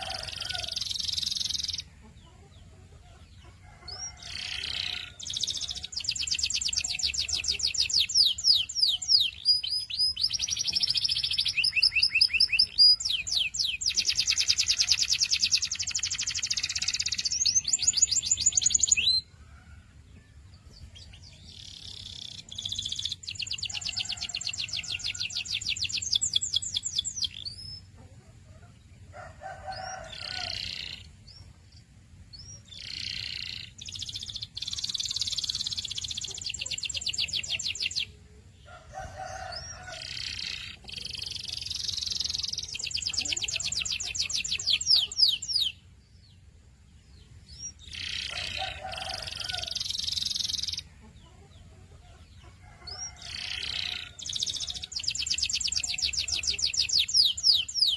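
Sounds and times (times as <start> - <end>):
canary singing trills: 0.0 - 19.5, 20.6 - 57.9.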